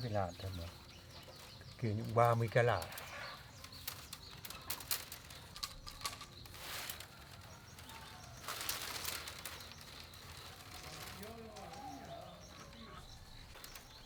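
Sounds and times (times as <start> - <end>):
bamboo rustling: 0.0 - 14.0.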